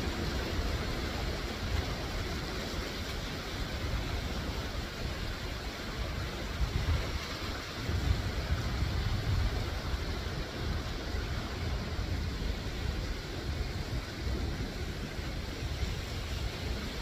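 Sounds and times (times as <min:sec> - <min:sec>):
sea waves washing on rocks: 0:00.0 - 0:17.0
wind on microphone: 0:00.0 - 0:17.0.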